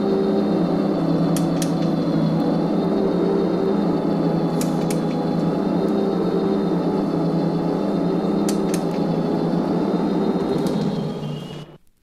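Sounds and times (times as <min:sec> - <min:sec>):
dense steady drone: 0:00.0 - 0:11.8.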